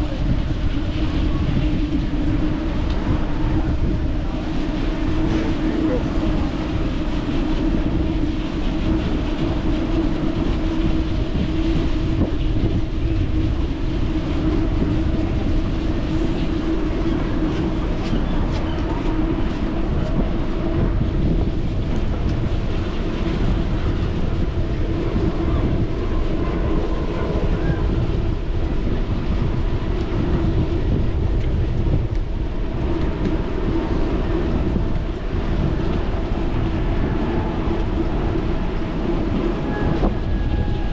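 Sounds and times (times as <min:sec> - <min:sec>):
constant low hum: 0:00.0 - 0:40.9
wind on microphone: 0:00.0 - 0:40.9.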